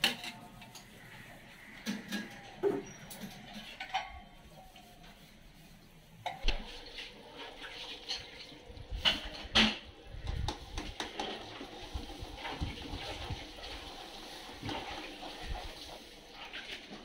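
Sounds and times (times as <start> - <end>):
ladle stirring boiling water: 0.0 - 17.0.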